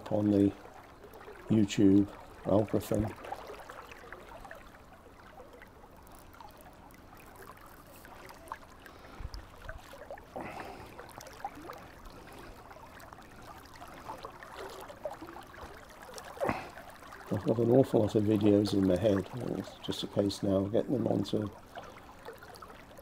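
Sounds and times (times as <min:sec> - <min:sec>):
river flowing and lapping: 0:00.0 - 0:23.0
water splashes: 0:00.0 - 0:23.0.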